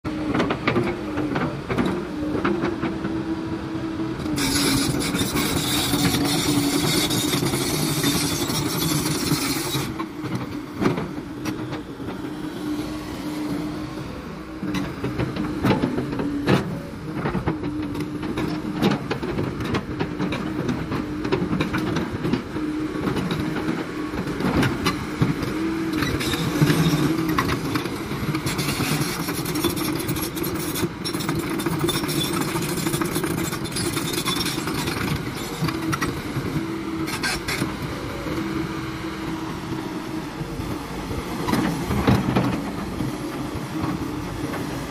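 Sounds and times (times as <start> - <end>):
excavator diesel engine running: 0.1 - 44.9.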